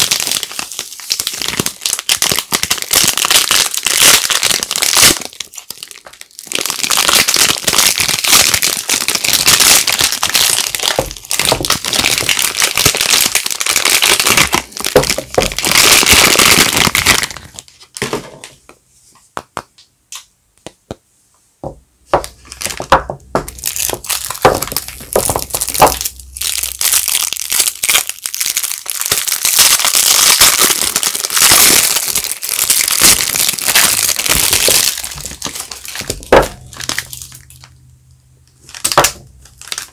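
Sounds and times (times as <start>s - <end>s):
wrapper crinkling and tearing: 0.0s - 18.2s, 22.2s - 39.9s.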